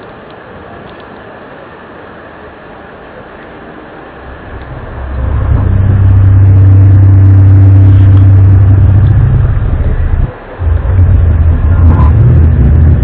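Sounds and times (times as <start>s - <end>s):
low droning hum: 2.4s - 13.0s.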